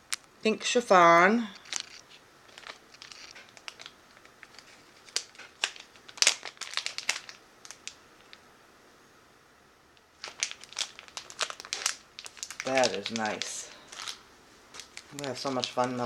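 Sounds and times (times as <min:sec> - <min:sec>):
plastic packaging crackling: 0:00.0 - 0:08.4, 0:10.0 - 0:16.0.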